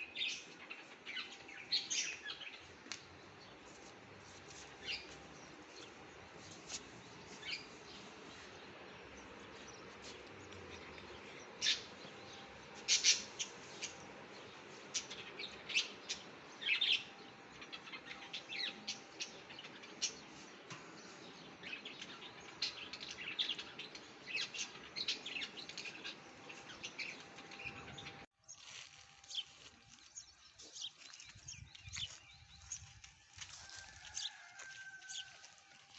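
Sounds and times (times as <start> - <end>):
birds chirping: 0.0 - 35.4.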